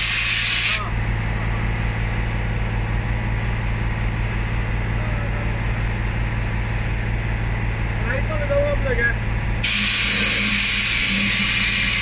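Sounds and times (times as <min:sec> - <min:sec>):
bus diesel engine idling: 0:00.0 - 0:12.0.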